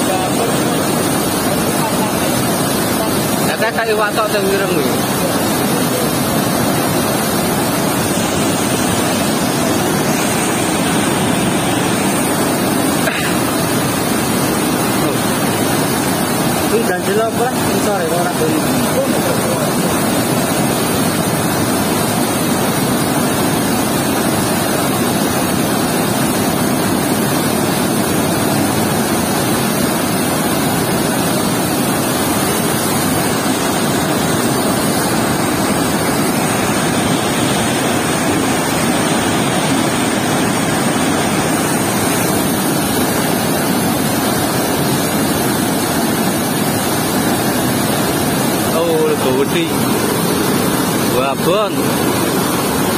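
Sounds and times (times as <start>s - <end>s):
water roaring through sluice gate: 0.0s - 52.9s.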